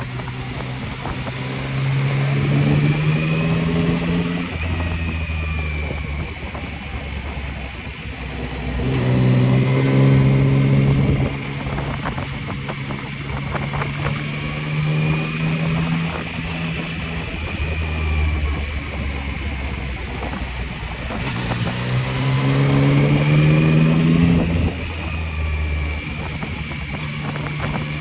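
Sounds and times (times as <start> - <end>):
motorcycle engine running: 0.0 - 28.0
wind noise: 0.0 - 28.0.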